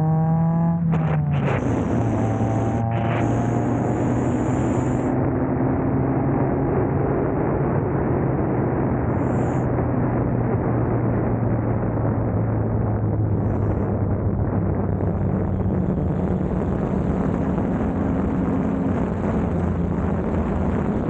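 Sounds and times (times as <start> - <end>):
car engine running: 0.0 - 21.0
road noise: 0.0 - 21.0.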